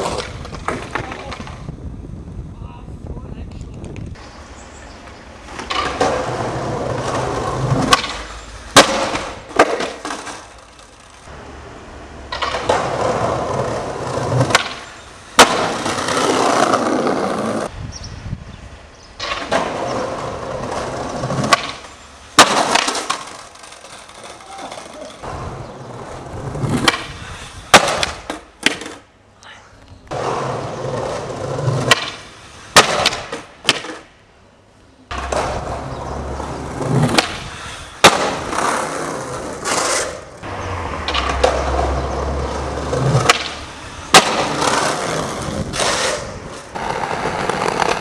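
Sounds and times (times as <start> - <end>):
skateboard hitting the ground: 0.0 - 1.7, 5.5 - 11.3, 12.3 - 17.7, 19.2 - 29.1, 30.1 - 34.1, 35.1 - 48.0
skateboard wheels rolling on tiles: 0.0 - 1.8, 3.6 - 17.7, 19.1 - 29.1, 30.0 - 34.1, 35.1 - 48.0.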